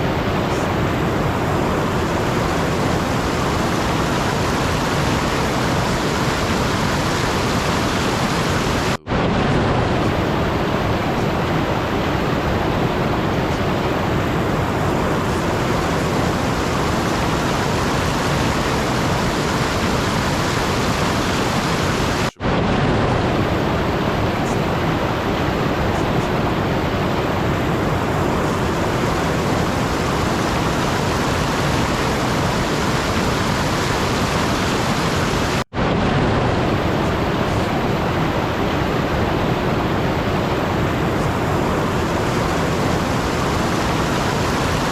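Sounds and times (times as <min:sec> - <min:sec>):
steady rushing noise: 0:00.0 - 0:44.9.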